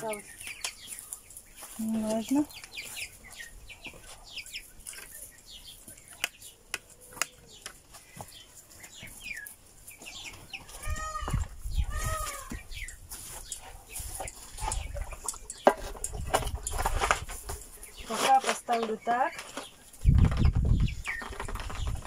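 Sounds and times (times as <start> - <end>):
young ducks peeping: 0.0 - 22.0.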